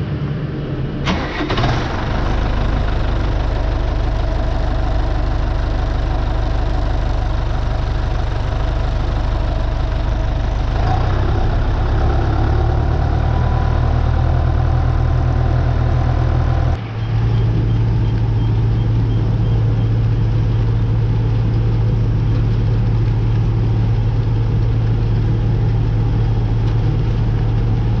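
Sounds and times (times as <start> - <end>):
steady low hum: 0.0 - 28.0
tractor engine running: 0.0 - 28.0.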